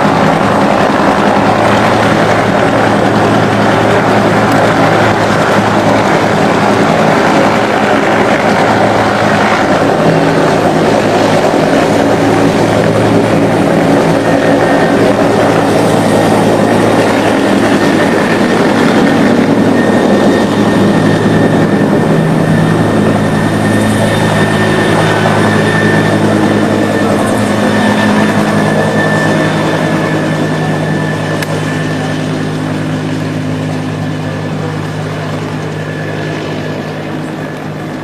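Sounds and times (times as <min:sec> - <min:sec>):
loud engine drone: 0:00.0 - 0:38.0.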